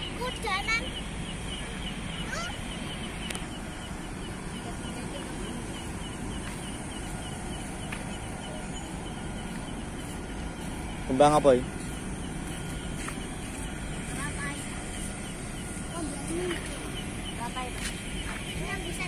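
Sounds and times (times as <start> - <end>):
low background rumble: 0.0 - 19.0
rapid high chirping: 0.0 - 19.0.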